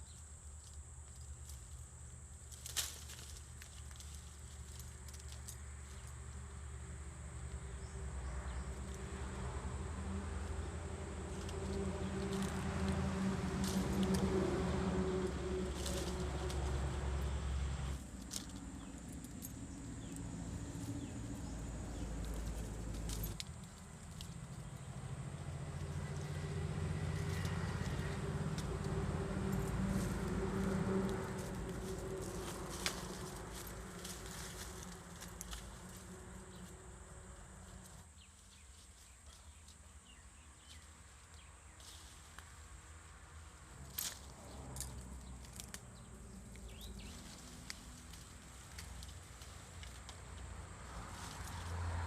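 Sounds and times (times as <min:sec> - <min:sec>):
low engine hum: 0:00.0 - 0:38.6, 0:39.8 - 0:52.0.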